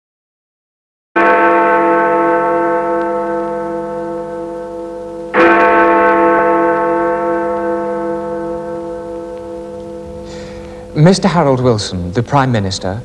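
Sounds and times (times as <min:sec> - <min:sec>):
deep bell ringing: 0:01.2 - 0:12.5.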